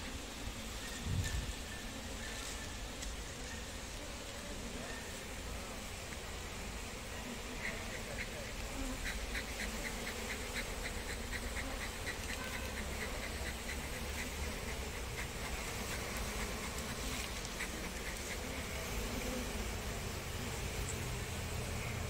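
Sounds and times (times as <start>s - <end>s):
bees buzzing: 1.5s - 22.0s.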